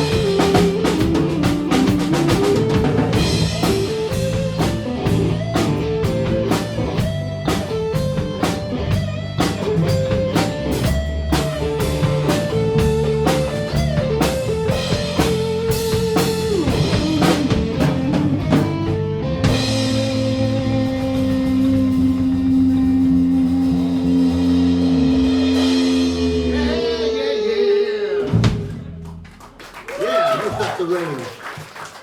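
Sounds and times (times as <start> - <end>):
drum kit: 0.0 - 27.2, 28.2 - 29.7
lead guitar with bent notes: 0.0 - 27.5
bass guitar: 0.0 - 29.9.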